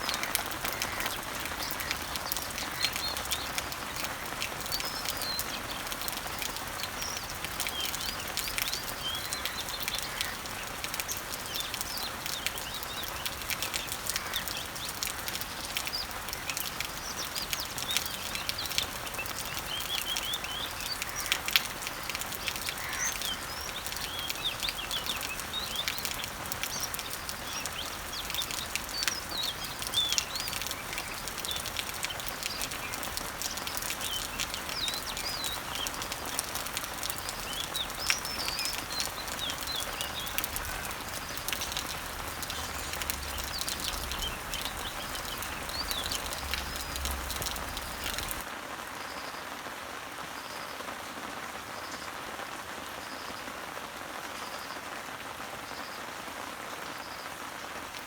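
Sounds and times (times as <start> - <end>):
birds chirping: 0.0 - 48.5
water dripping: 0.0 - 48.5
rain pattering on leaves: 0.0 - 58.0.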